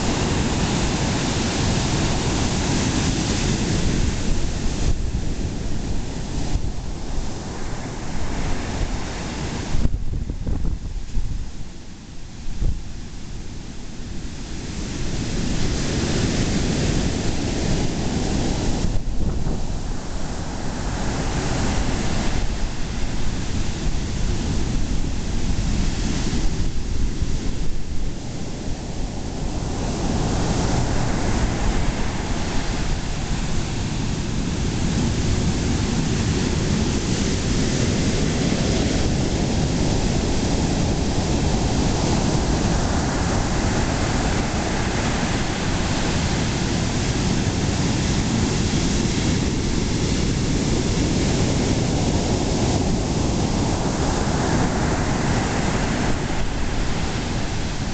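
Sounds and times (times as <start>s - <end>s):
ocean surf breaking: 0.0s - 57.9s
wind buffeting microphone: 0.0s - 57.9s.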